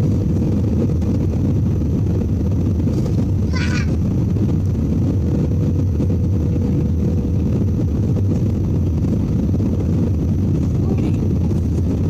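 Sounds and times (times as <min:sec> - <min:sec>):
jet engines rumbling in cabin: 0:00.0 - 0:12.0
rushing air: 0:00.0 - 0:12.0.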